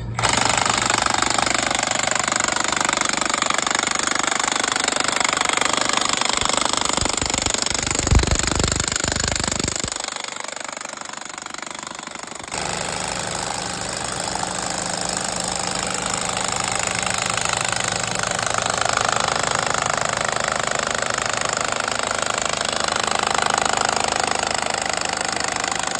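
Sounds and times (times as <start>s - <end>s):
impact wrench hammering: 0.2s - 25.9s.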